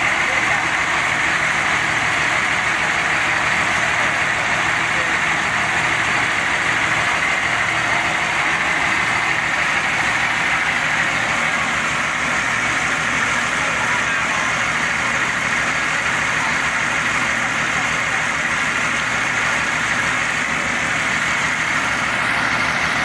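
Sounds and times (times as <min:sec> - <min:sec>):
boat engine running steadily: 0:00.0 - 0:23.0.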